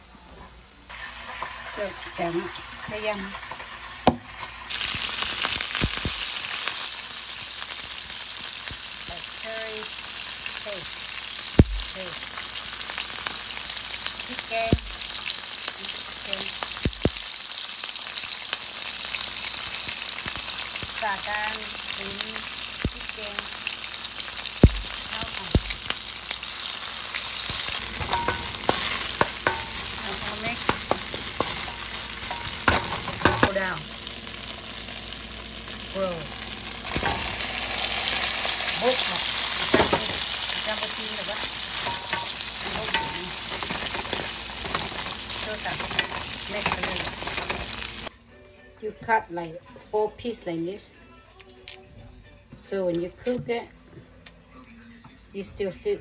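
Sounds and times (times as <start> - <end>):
paste sizzling in hot oil: 0.9 - 48.1.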